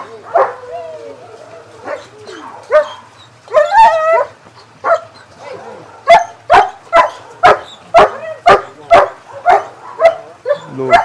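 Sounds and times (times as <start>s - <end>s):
dog barking: 0.2s - 0.7s, 1.7s - 11.0s.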